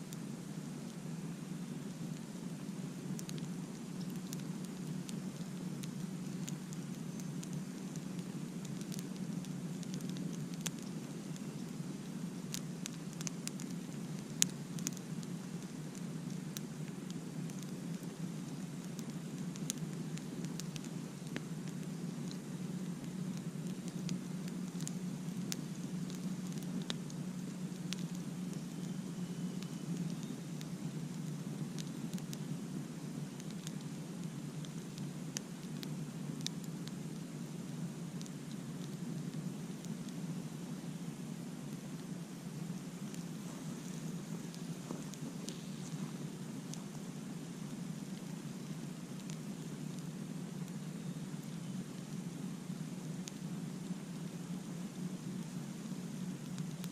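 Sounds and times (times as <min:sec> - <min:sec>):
campfire crackling: 0:00.0 - 0:56.9
low background noise: 0:00.0 - 0:56.9.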